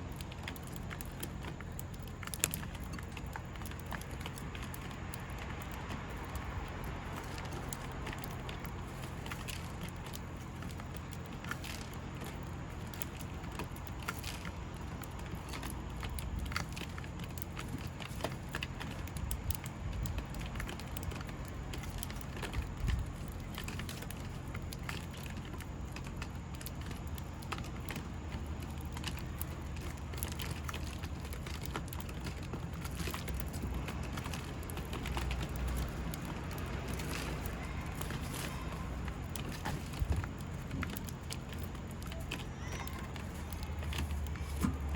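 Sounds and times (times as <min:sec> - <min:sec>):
small ticks and taps: 0:00.0 - 0:44.9
steady low rumble: 0:00.0 - 0:44.9.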